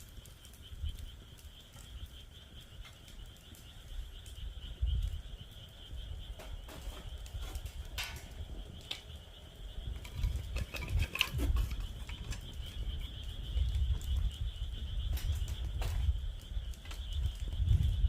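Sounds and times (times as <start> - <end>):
frogs calling: 0.0 - 18.0
wood fire crackling: 0.0 - 18.0.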